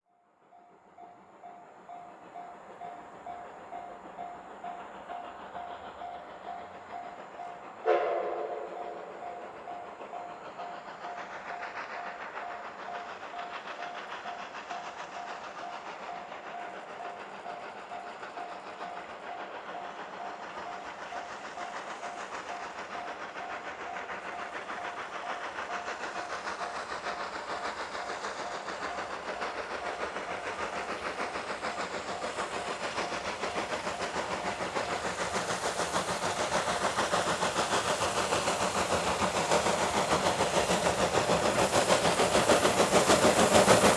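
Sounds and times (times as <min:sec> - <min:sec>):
steam locomotive chuffing: 0:00.2 - 0:43.9.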